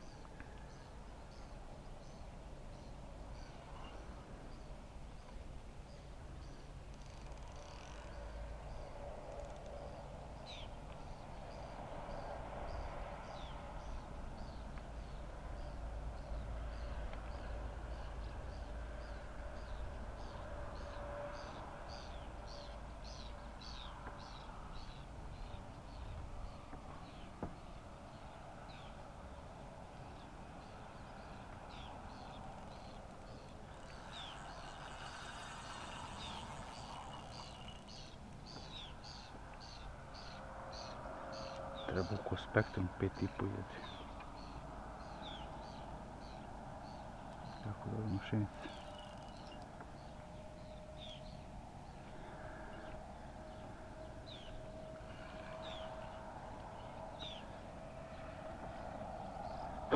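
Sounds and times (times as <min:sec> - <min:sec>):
birds chirping: 0:00.0 - 0:29.0, 0:29.9 - 0:59.9.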